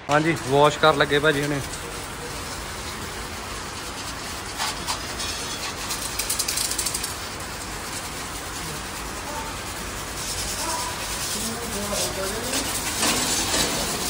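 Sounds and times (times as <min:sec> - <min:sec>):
hose spraying water on metal: 0:00.0 - 0:14.0.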